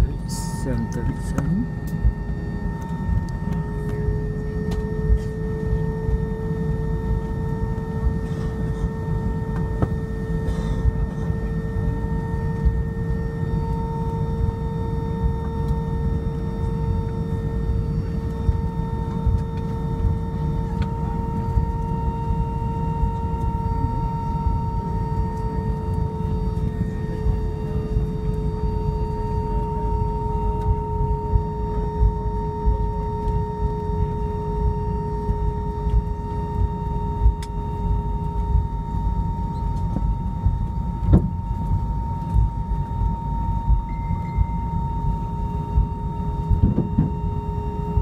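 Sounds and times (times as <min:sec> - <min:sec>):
jet engines idling: 0:00.0 - 0:48.0
steady hum: 0:00.0 - 0:48.0.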